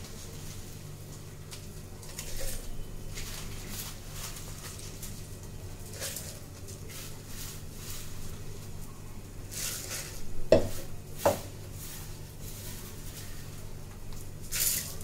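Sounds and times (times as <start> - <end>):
dry spices rustling: 0.0 - 15.0.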